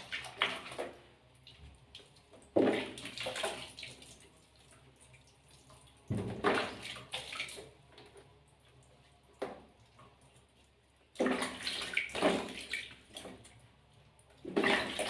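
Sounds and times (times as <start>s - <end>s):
water splashing and pouring: 0.0s - 15.0s.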